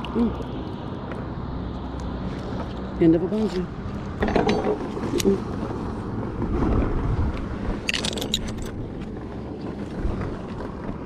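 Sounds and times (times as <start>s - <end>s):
motorboats rumbling: 0.0s - 11.0s
wind buffeting microphone: 0.0s - 11.0s.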